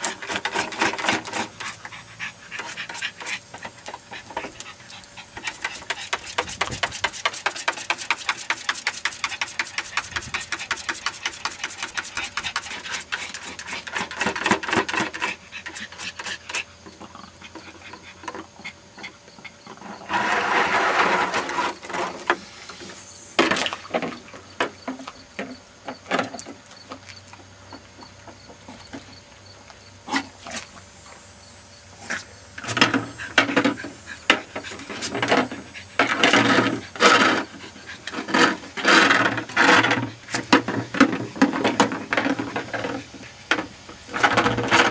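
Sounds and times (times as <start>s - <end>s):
plastic bucket scraping on concrete: 0.0s - 26.6s, 32.0s - 44.9s.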